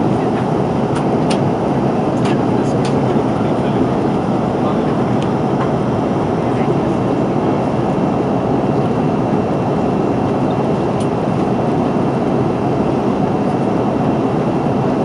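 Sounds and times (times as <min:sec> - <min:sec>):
aircraft cabin roar: 0:00.0 - 0:15.0.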